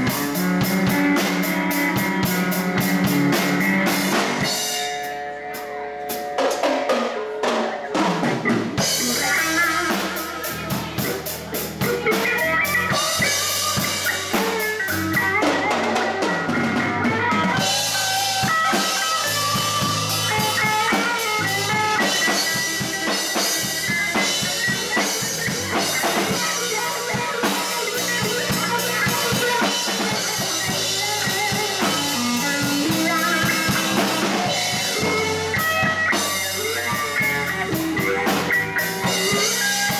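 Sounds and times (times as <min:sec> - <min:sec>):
electric bass: 0:00.0 - 0:06.4, 0:07.9 - 0:39.9
drum kit: 0:00.0 - 0:39.9
electric guitar: 0:00.0 - 0:39.9.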